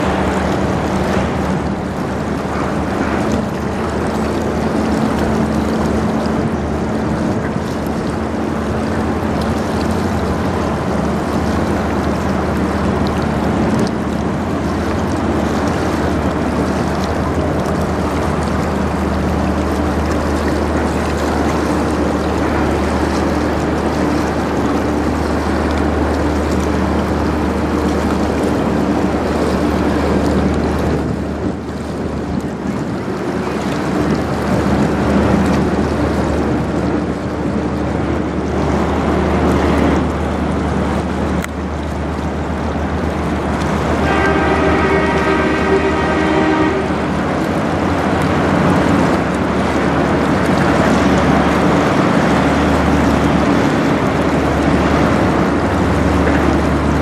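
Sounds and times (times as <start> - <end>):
ship engine drone: 0.0 - 57.0
water rushing: 0.0 - 57.0
wind: 0.0 - 57.0.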